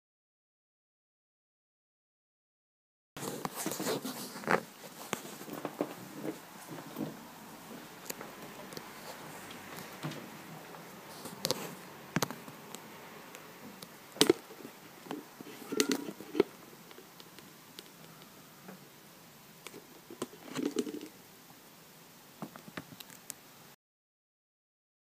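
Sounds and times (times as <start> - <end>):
faint steady hiss: 3.2 - 23.8.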